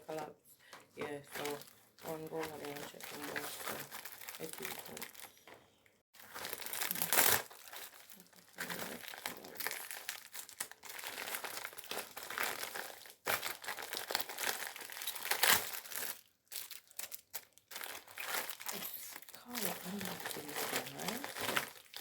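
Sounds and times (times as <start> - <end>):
packaging crinkling: 1.2 - 5.5, 6.2 - 22.0.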